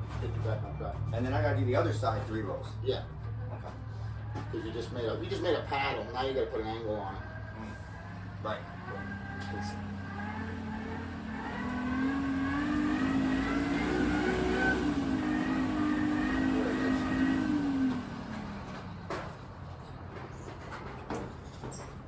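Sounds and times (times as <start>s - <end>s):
motor vehicle engine hum: 0.0s - 22.0s.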